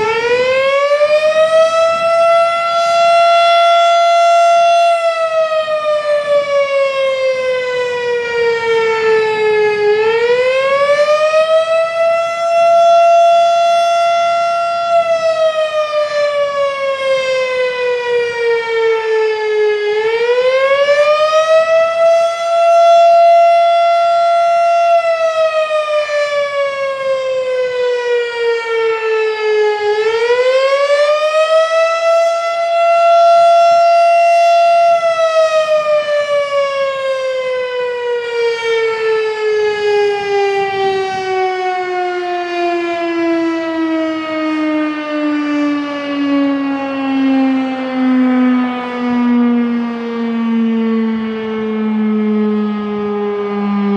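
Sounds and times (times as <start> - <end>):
fire siren winding up and down: 0.0 - 53.9.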